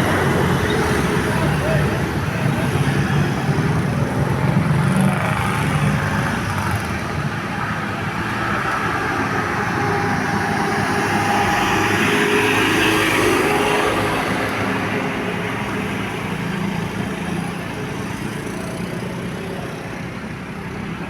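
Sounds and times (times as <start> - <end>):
bus engine rumble: 0.0 - 21.0
traffic noise: 0.0 - 21.0.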